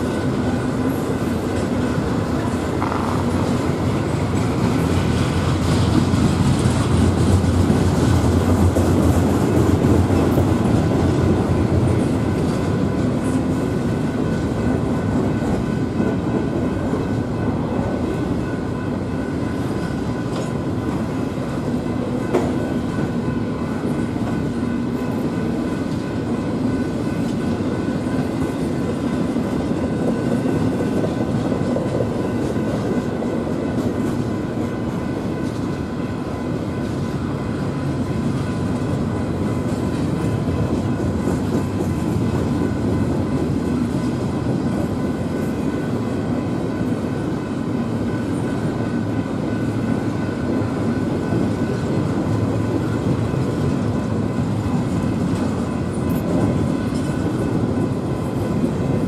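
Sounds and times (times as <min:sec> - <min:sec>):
steel train wheels rumbling on rails: 0:00.0 - 0:59.0.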